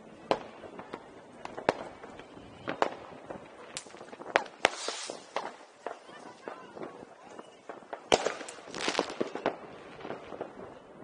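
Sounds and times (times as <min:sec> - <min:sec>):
fireworks bangs: 0:00.0 - 0:11.0
firework hiss: 0:01.5 - 0:10.7.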